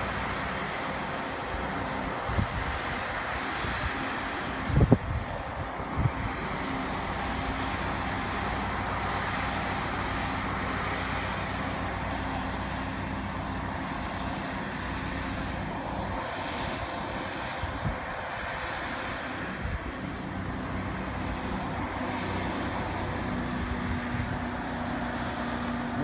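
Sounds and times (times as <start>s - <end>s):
constant rush of noise: 0.0s - 26.0s
low locomotive engine hum: 0.0s - 26.0s.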